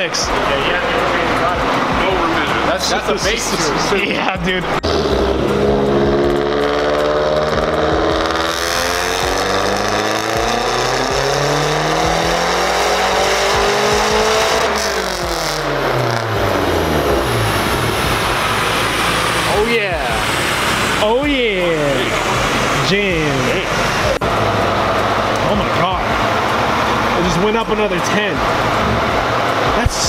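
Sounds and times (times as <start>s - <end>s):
turbocharged car engine revving: 0.0s - 30.0s.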